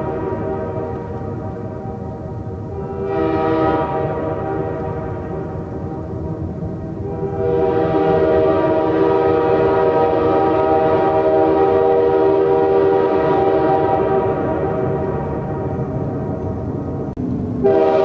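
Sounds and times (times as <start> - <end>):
train horn blast: 0.0 - 16.4, 17.6 - 18.0.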